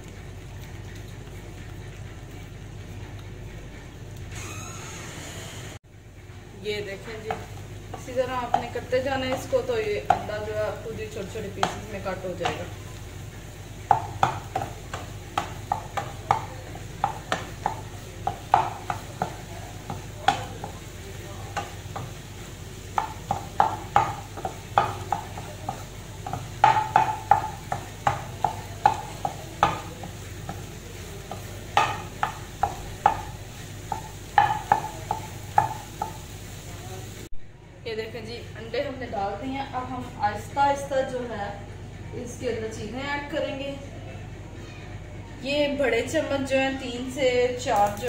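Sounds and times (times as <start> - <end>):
light frying sizzle: 0.0 - 43.8, 45.5 - 48.0.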